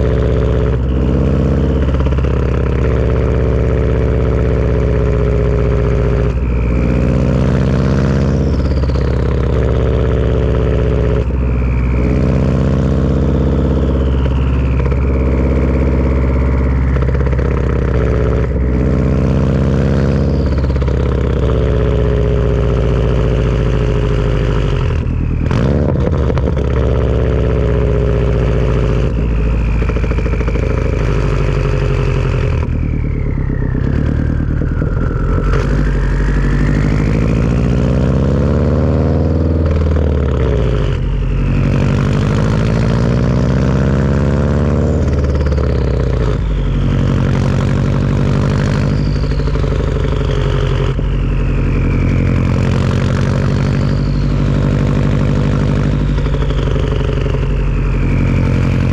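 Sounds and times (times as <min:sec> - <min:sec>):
car engine note: 0:00.0 - 0:58.9
turbo whistle: 0:00.0 - 0:58.9.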